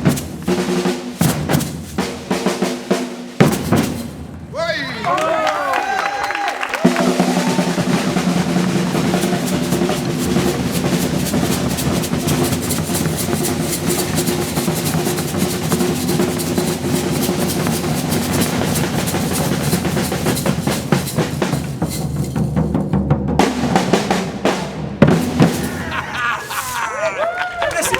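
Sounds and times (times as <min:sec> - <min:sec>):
percussion ensemble drumming: 0:00.0 - 0:05.2, 0:06.6 - 0:27.2.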